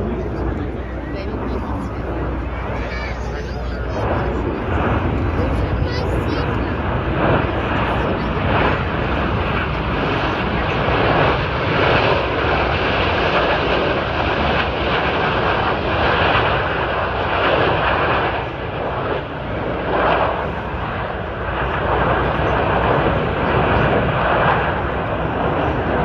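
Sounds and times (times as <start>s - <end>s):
jet engine rushing: 0.0s - 26.0s.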